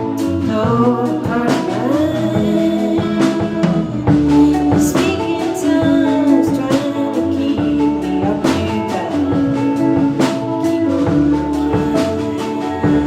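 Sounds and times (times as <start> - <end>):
live band playing instrumental: 0.0 - 13.0.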